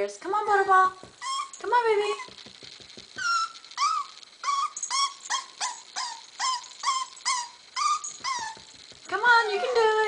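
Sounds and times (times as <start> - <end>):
puppy whining: 1.2 - 2.5, 3.1 - 10.0.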